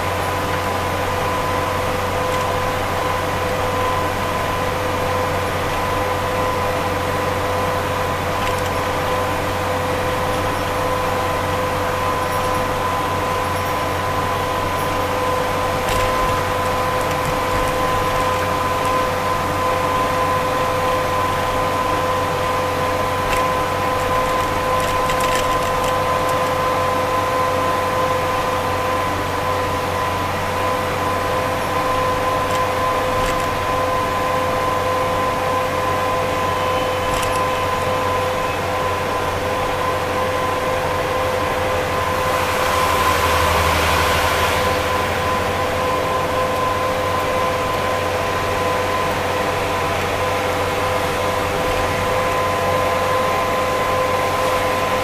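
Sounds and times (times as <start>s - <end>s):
constant whine: 0.0s - 55.0s
road and engine noise in car: 0.0s - 55.0s.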